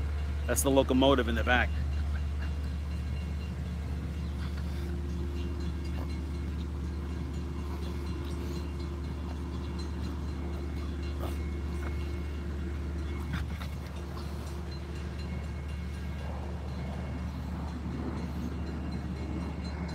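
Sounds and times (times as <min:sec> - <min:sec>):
diesel locomotive engine drone: 0:00.0 - 0:19.9.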